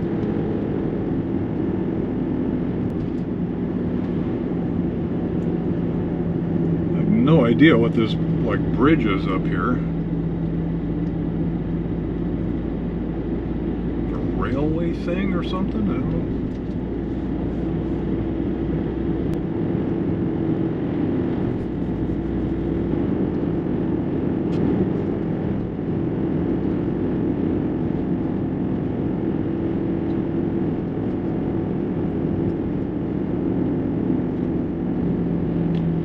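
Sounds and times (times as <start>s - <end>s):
engine and road noise in cab: 0.0s - 36.0s.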